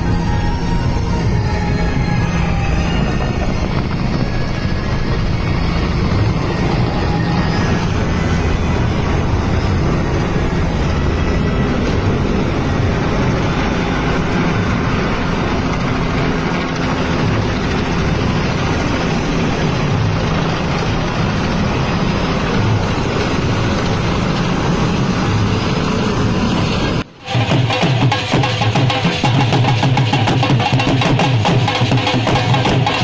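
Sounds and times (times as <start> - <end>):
helicopter flying overhead: 0.0 - 33.0.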